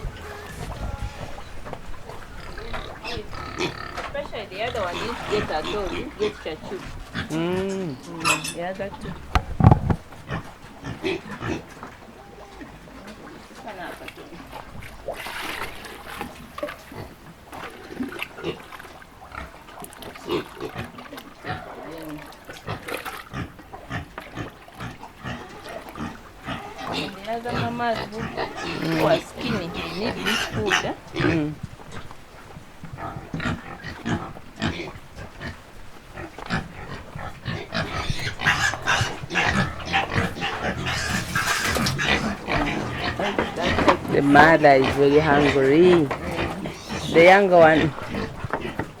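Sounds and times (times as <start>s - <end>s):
pigs grunting: 0.0s - 49.0s.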